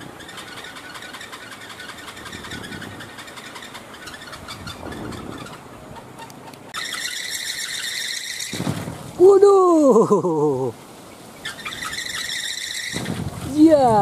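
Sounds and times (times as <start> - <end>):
wind propeller clattering rattle: 0.0 - 9.4, 10.9 - 14.0
propeller high whine: 0.0 - 14.0
wind gusts rumbling: 0.0 - 14.0.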